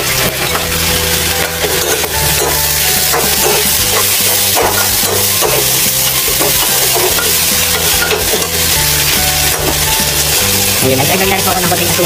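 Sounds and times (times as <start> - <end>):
background music with bass: 0.0 - 12.0
meat sizzling in a wok: 0.0 - 12.0
metal spatula scraping wok: 0.0 - 12.0.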